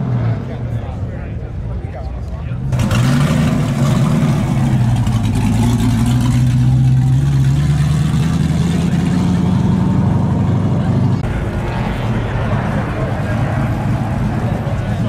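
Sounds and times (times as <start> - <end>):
car engine running loud: 0.0 - 15.0.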